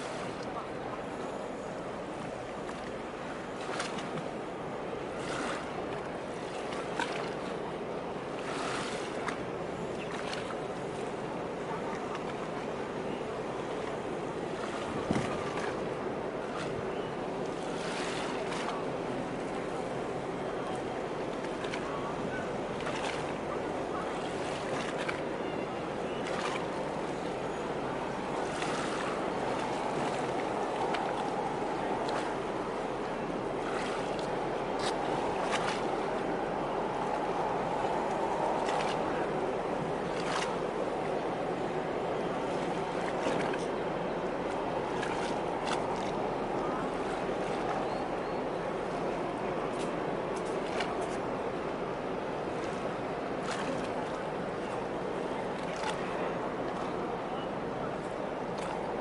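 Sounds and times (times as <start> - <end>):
rush of water: 0.0 - 59.0
water splashing in small waves: 0.0 - 59.0
wind: 0.0 - 59.0.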